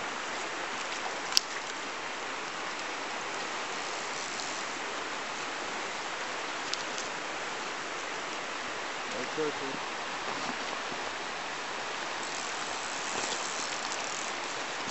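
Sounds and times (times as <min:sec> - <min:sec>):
river flowing over stones: 0:00.0 - 0:14.9.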